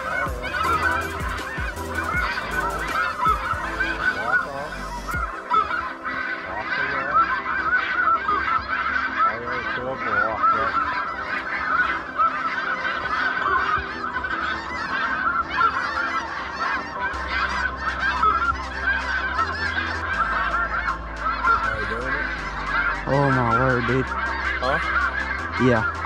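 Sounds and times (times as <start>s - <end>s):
flock of geese calling: 0.0s - 26.0s.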